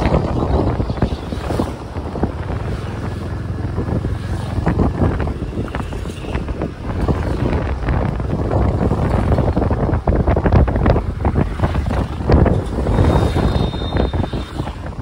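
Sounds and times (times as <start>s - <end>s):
motorbike and road rumble: 0.0s - 15.0s
wind buffeting microphone: 0.0s - 15.0s.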